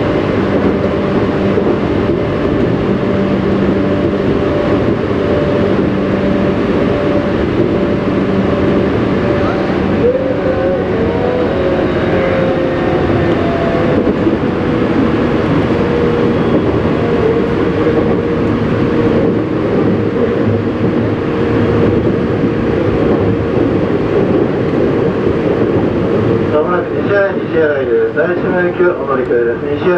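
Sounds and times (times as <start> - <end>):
wheel-on-rail rumble: 0.0 - 29.9.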